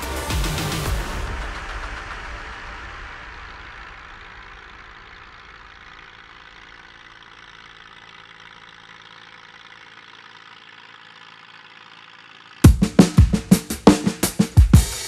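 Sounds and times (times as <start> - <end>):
forage harvester running: 0.0 - 15.0
tractor engines humming: 0.0 - 15.0.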